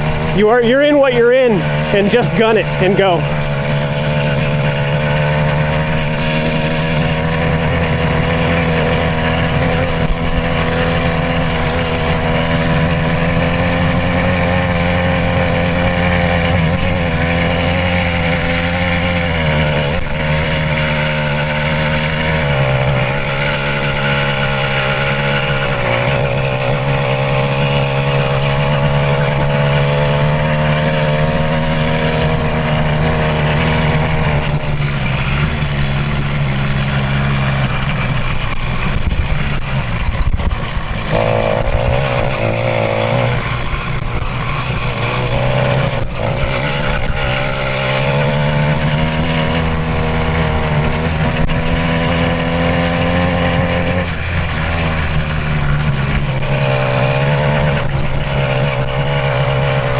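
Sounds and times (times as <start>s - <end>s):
two-stroke engine at full throttle: 0.0s - 59.9s.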